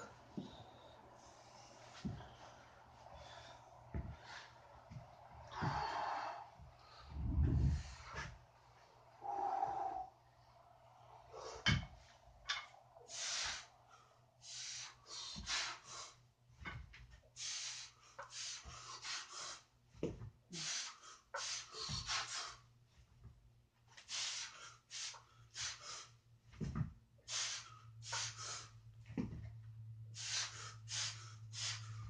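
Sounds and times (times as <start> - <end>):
man breathing heavily: 0.0 - 23.2, 24.0 - 29.0, 30.0 - 32.0.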